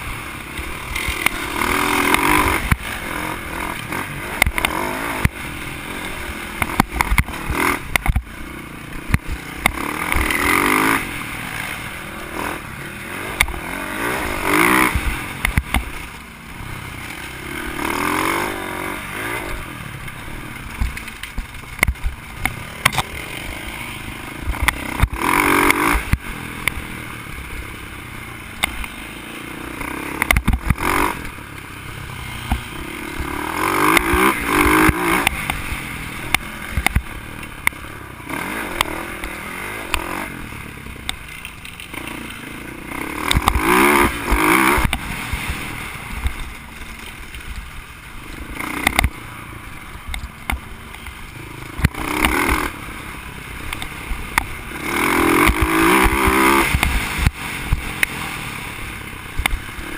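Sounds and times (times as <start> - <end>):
bike knocking and rattling: 0.0 - 11.6, 12.6 - 29.0, 29.8 - 52.8
dirt bike engine revving: 0.0 - 59.9.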